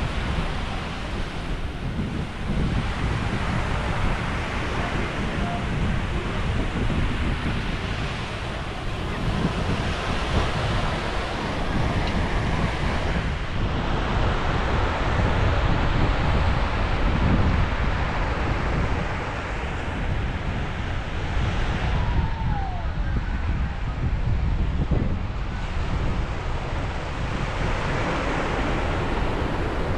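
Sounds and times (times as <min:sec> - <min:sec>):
sea waves breaking: 0:00.0 - 0:23.6, 0:25.2 - 0:29.9.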